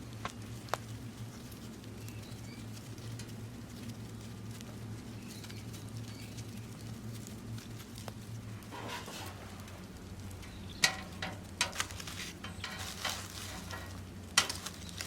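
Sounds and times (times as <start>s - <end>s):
steady low hum: 0.0s - 15.0s
wood fire crackling and popping: 0.0s - 15.0s.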